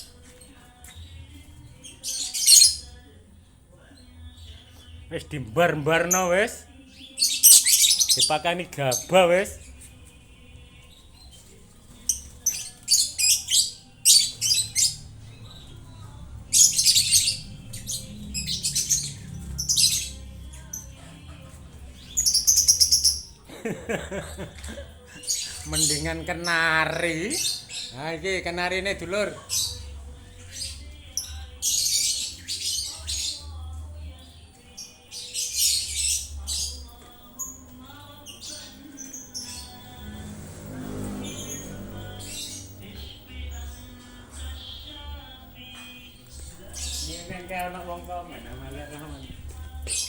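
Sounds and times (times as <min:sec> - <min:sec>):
caged birds calling shrilly: 0:00.0 - 0:50.0
lovebirds chirping and squawking: 0:00.0 - 0:50.0.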